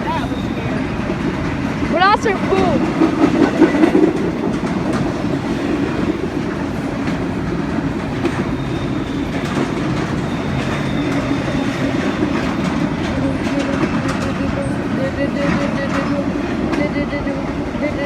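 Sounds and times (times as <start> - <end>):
train wheels rumbling on rails: 0.0 - 18.0
wheels clicking over rail joints: 1.0 - 17.0.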